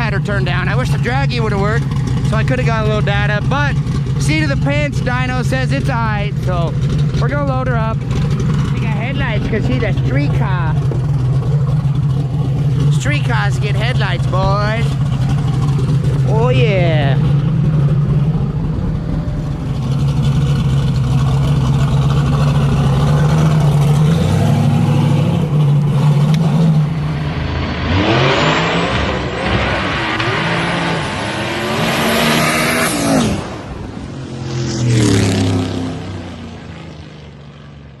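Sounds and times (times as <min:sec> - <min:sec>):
car engine rumbling and revving: 0:00.0 - 0:38.0.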